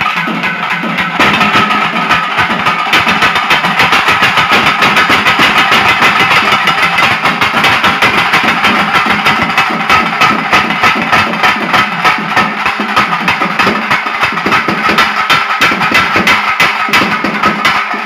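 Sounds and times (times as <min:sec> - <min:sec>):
folk drums beaten with sticks: 0:00.0 - 0:18.0.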